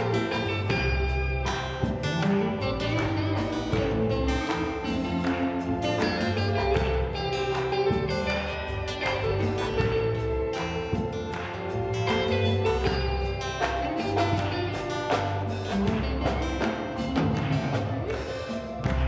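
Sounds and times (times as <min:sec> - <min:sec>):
deep bass notes: 0:00.0 - 0:19.0
drum kit beat: 0:00.0 - 0:19.0
electric guitar lines: 0:00.0 - 0:19.0.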